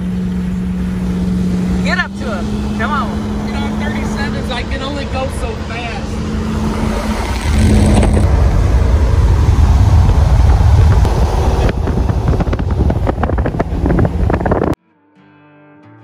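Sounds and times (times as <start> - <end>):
vehicle engine running loud: 0.0 - 14.8.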